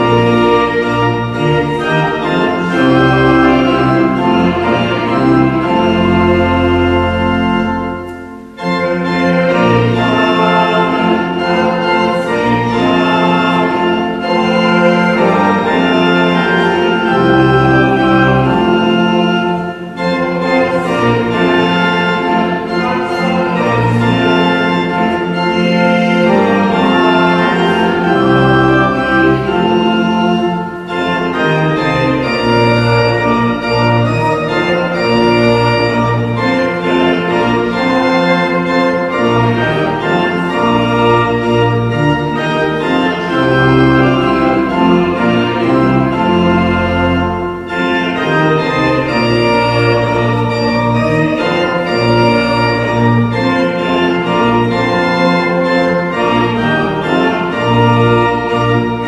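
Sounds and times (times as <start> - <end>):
church organ chords: 0.0 - 59.0.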